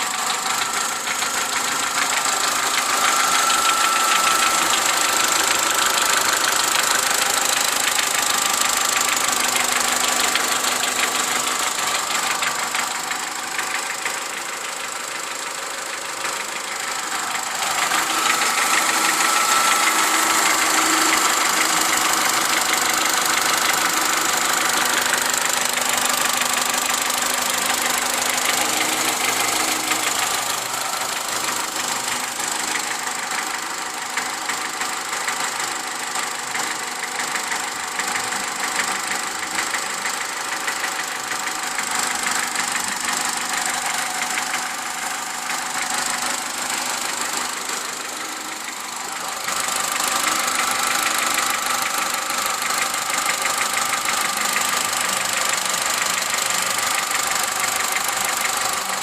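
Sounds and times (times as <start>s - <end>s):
car engine idling with ticking rattle: 0.0s - 59.0s.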